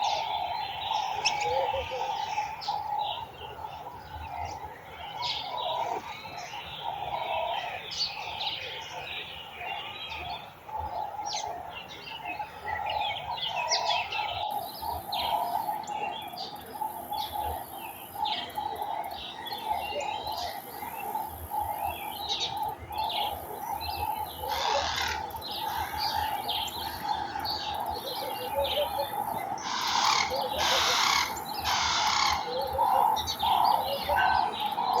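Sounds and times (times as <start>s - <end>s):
birds chirping and twittering: 0.0s - 35.0s.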